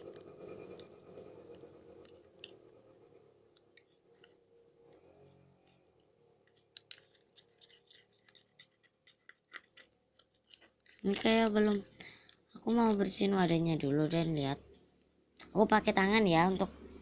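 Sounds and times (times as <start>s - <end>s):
sticky clicks of slime stirred: 0.0s - 13.7s.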